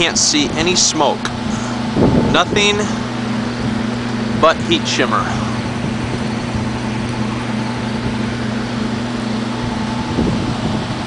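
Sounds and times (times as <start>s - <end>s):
boiler blower humming: 0.0s - 11.0s.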